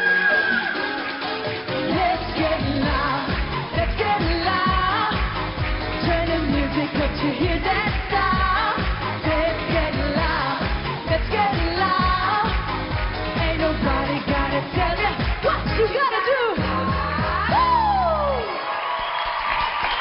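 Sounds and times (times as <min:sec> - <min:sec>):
dance beat and backing band: 0:00.0 - 0:18.5
woman singing pop song: 0:00.1 - 0:18.4.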